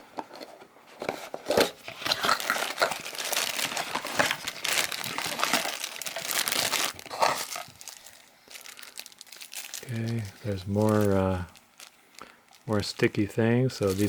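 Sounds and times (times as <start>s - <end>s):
plastic packaging crinkling: 1.0s - 14.0s.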